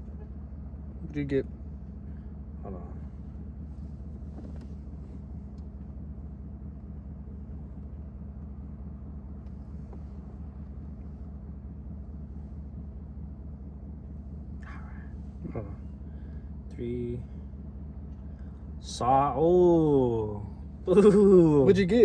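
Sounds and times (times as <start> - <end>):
car idling: 0.0 - 22.0.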